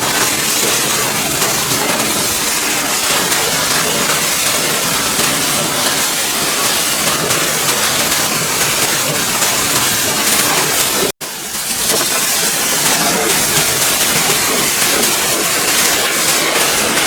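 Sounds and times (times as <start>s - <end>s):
pressure washer spraying: 0.0s - 17.0s.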